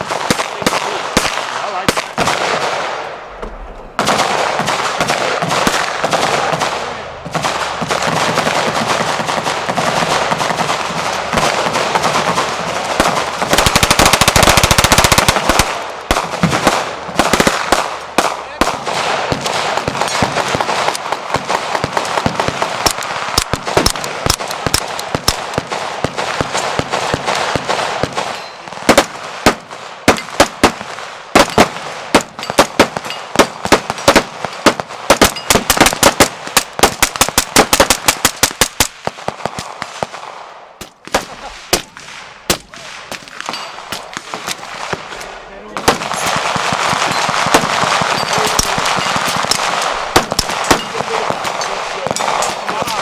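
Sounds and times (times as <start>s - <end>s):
guns firing: 0.0s - 53.0s.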